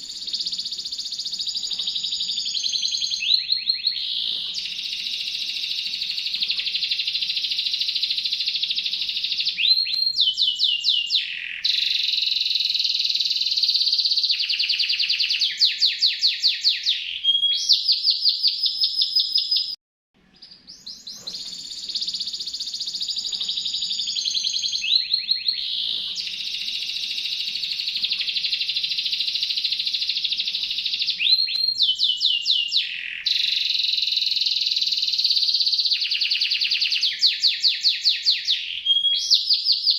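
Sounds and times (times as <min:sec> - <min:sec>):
canary trilling song: 0:00.0 - 0:39.9.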